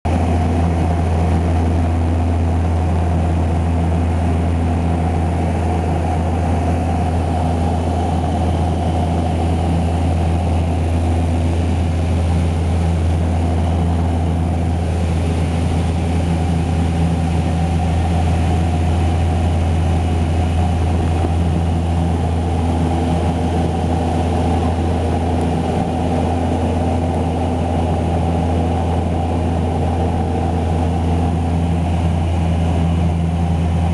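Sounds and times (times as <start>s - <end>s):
plane engines droning: 0.1s - 33.9s.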